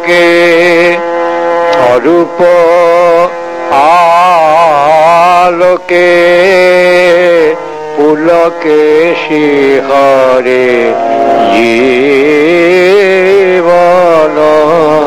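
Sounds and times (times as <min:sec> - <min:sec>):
low drone: 0:00.0 - 0:15.0
man singing devotional song: 0:00.0 - 0:15.0.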